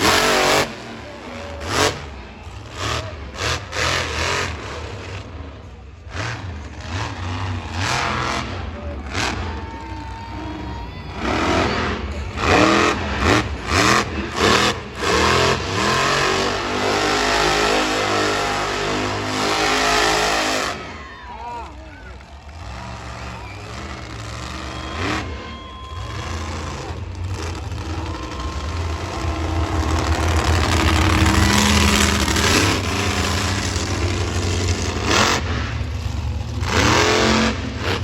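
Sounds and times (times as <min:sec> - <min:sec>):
truck engine revving hard: 0:00.0 - 0:21.1, 0:22.1 - 0:38.0.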